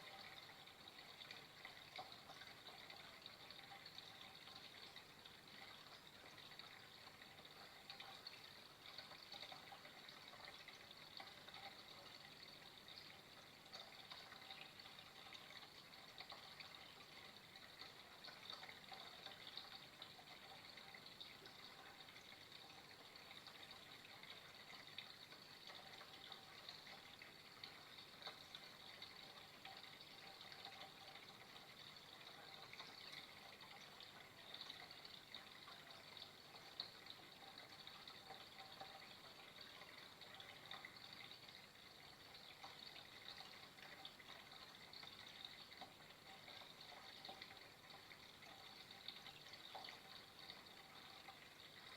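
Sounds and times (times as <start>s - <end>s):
faint trickle of water: 0.0s - 51.9s.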